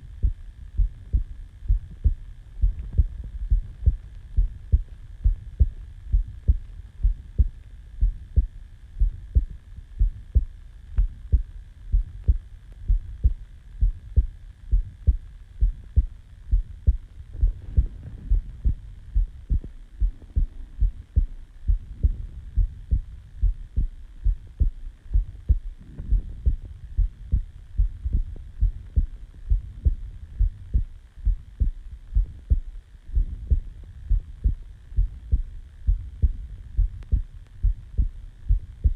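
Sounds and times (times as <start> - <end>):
faint steady hum: 0.0 - 38.9
heartbeat thumps: 0.0 - 38.9.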